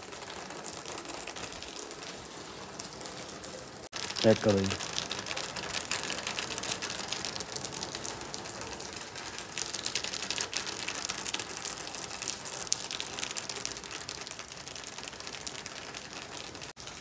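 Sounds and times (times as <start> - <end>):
pattering of falling drops: 0.0 - 17.0.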